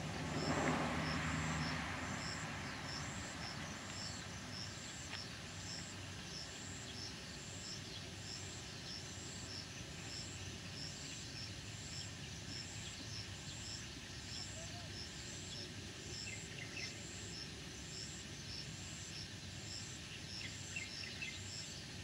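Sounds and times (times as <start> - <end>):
cicadas and crickets trilling: 0.0 - 22.0.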